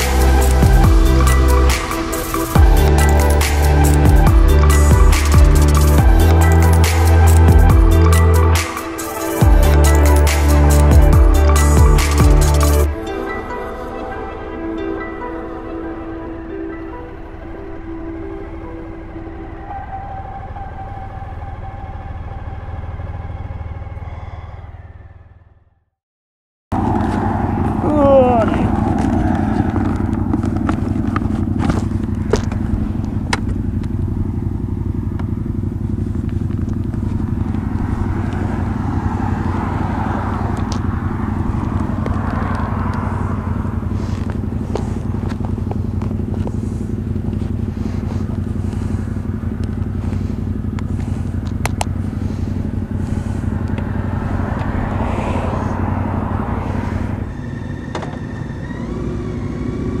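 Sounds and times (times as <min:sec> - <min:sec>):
motorcycle engine running: 0:00.0 - 0:13.0, 0:16.7 - 0:25.8, 0:26.7 - 1:00.0
road and wind noise: 0:00.0 - 0:25.8, 0:26.7 - 1:00.0.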